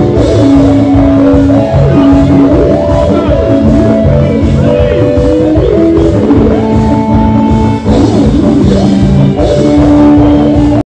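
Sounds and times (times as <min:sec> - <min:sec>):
drum beat: 0:00.0 - 0:10.8
keyboard melody with sliding notes: 0:00.0 - 0:10.8
bass: 0:00.0 - 0:10.9.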